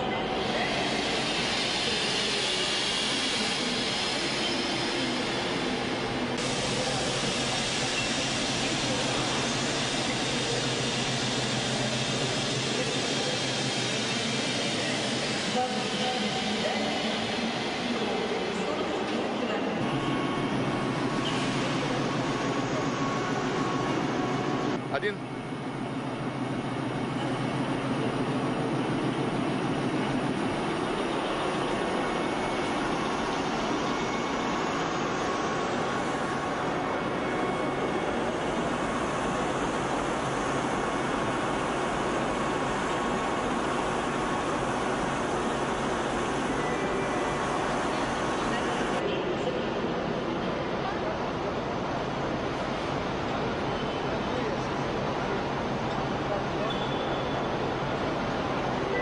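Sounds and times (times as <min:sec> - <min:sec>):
diesel locomotive engine drone: 0:00.0 - 0:59.0
railway station noise: 0:00.0 - 0:59.0.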